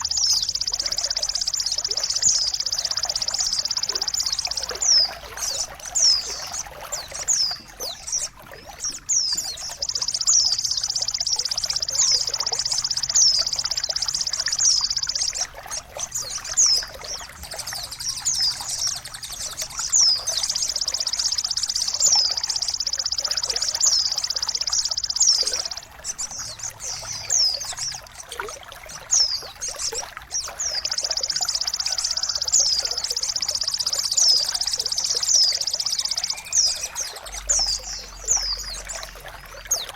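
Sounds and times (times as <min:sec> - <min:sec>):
high-pitched bird trill: 0:00.0 - 0:15.5, 0:16.2 - 0:28.4, 0:29.0 - 0:39.9
trickling water: 0:00.0 - 0:39.9.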